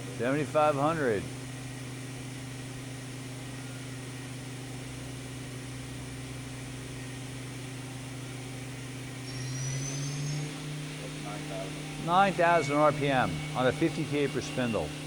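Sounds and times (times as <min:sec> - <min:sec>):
faint rising whine: 0:00.0 - 0:15.0
machine spindle humming: 0:00.0 - 0:15.0.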